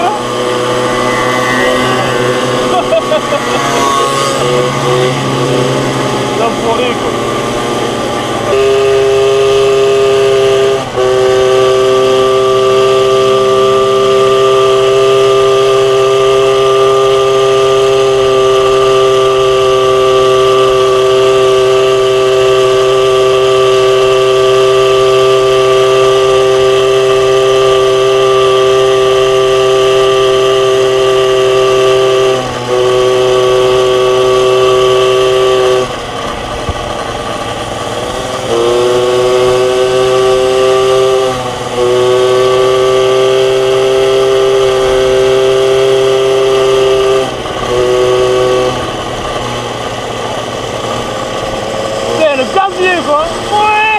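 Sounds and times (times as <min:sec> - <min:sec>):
moped engine at high revs: 0:00.0 - 0:53.9.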